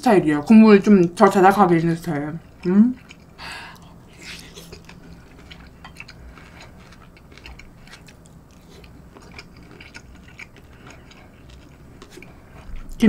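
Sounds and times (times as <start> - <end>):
chewing food with wet mouth clicks: 2.0 - 13.0.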